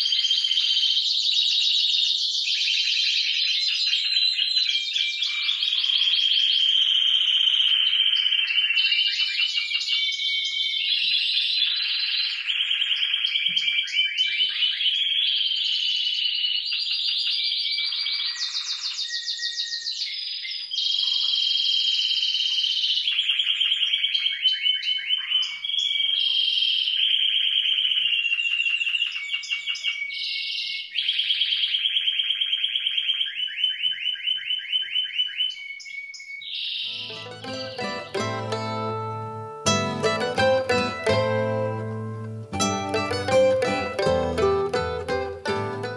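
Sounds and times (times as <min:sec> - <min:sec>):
canary song trills: 0:00.0 - 0:45.9.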